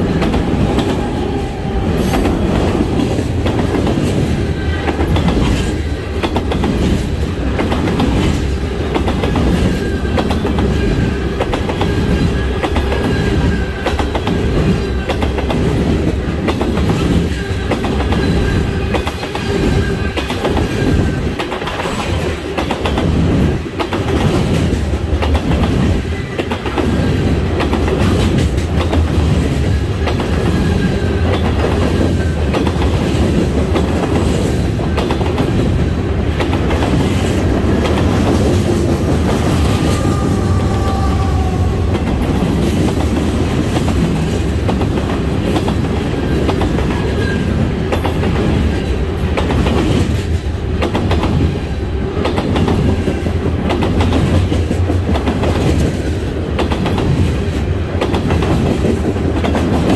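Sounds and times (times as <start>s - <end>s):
freight train rumble: 0.0s - 59.9s
steel wheels clacking over rail joints: 0.0s - 59.9s.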